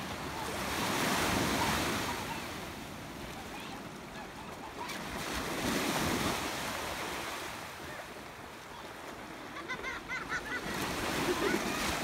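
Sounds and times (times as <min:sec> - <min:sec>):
small waves washing in shallow water: 0:00.0 - 0:12.0.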